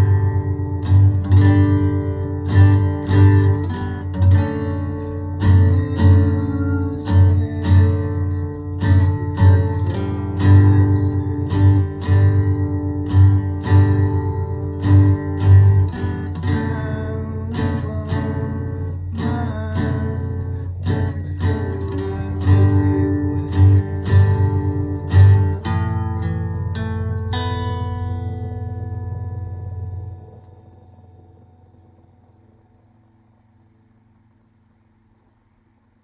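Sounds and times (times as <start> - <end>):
acoustic guitar strumming: 0.0 - 35.9.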